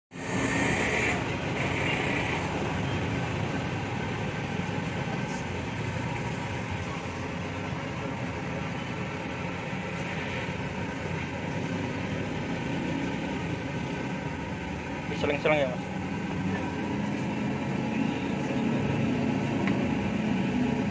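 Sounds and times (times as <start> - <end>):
engines idling: 0.1 - 20.9
street traffic rumble: 0.1 - 20.9.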